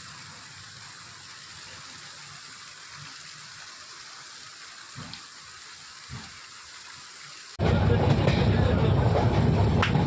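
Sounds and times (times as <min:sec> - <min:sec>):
rushing water: 0:00.0 - 0:10.0.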